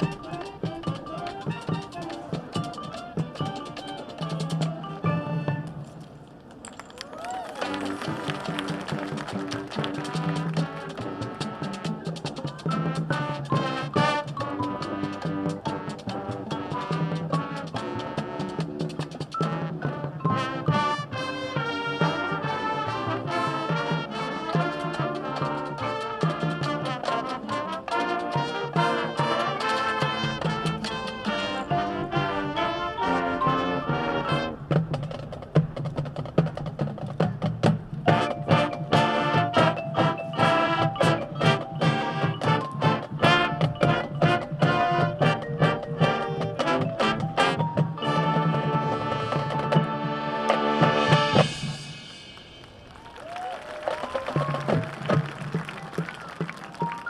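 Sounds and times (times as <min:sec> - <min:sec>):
marching band playing: 0:00.0 - 0:57.0.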